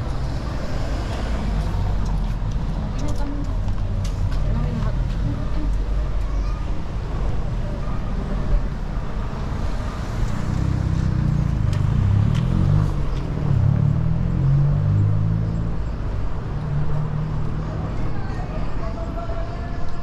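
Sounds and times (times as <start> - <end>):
low traffic rumble: 0.0 - 20.0.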